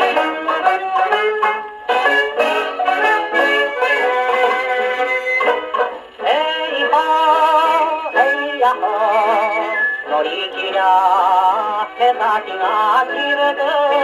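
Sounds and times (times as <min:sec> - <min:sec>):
old popular song on phonograph: 0:00.0 - 0:14.0.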